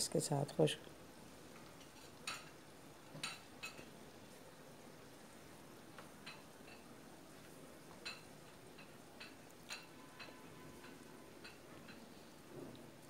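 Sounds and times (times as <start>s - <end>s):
faint sizzle of frying: 0.0s - 13.0s.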